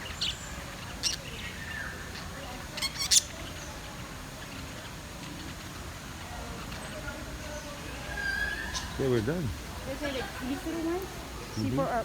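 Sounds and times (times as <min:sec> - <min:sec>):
cage birds chirping: 0:00.0 - 0:12.0.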